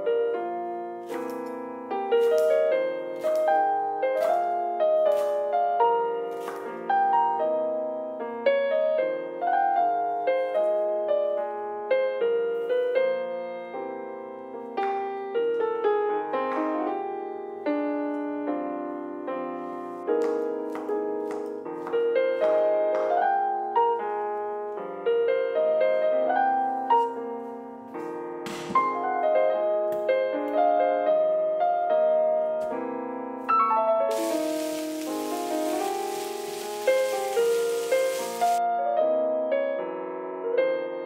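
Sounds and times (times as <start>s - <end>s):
solo piano music: 0.0s - 41.0s.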